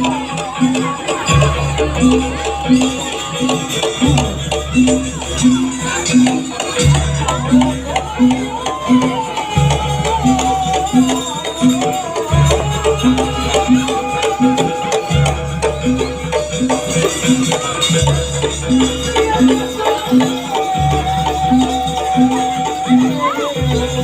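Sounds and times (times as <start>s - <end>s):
drums beating: 0.0s - 24.0s.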